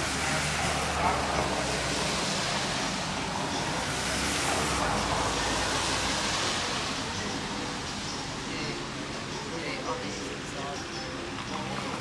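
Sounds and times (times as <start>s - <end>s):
tyres on wet road: 0.0s - 12.0s.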